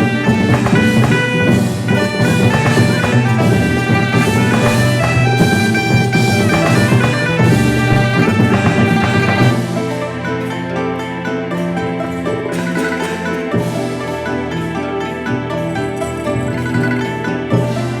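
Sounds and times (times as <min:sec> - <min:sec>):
drums and percussion: 0:00.0 - 0:18.0
wind instruments melody: 0:00.0 - 0:18.0.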